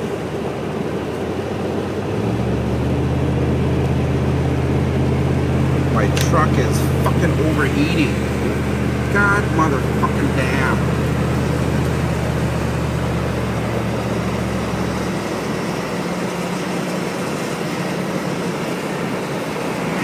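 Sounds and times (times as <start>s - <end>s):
low engine drone: 0.0s - 20.0s
road and wind noise: 0.0s - 20.0s.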